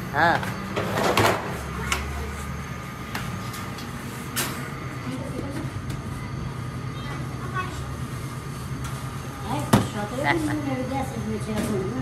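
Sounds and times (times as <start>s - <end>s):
bread oven rumbling and humming: 0.0s - 12.0s.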